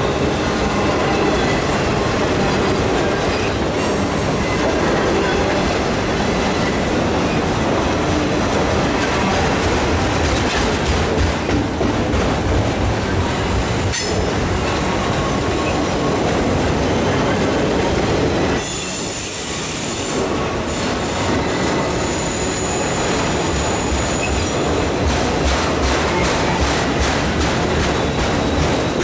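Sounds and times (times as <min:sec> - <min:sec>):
steel wheels rumbling on rail: 0:00.0 - 0:29.0.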